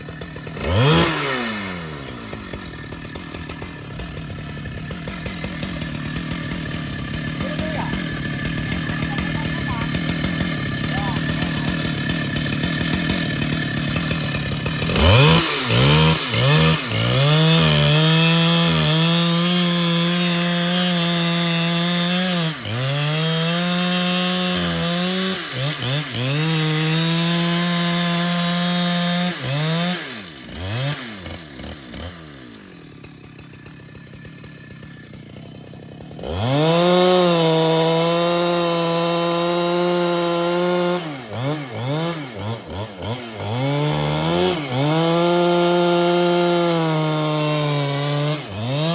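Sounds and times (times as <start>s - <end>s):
chainsaw revving and cutting wood: 0.0s - 48.9s.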